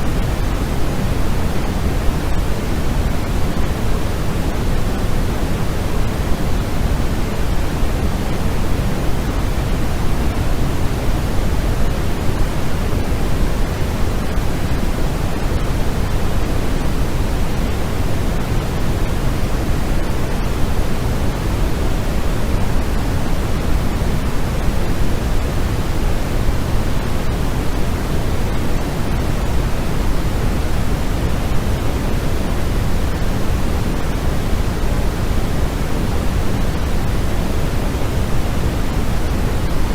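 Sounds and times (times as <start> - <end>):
low white noise hiss: 0.0 - 39.9.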